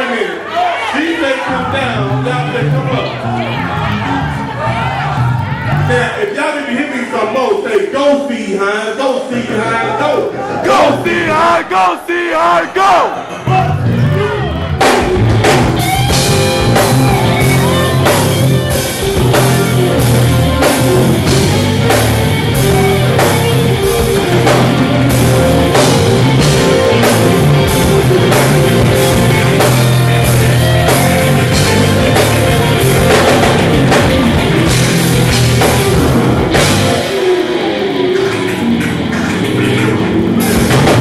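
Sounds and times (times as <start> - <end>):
live band playing: 0.0 - 6.4, 9.2 - 41.0.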